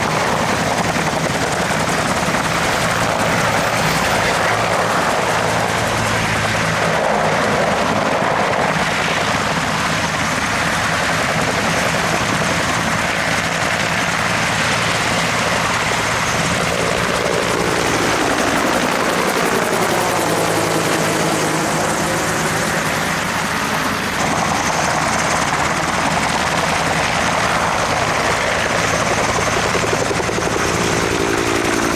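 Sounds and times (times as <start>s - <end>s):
helicopter rotor and turbine: 0.0s - 31.9s.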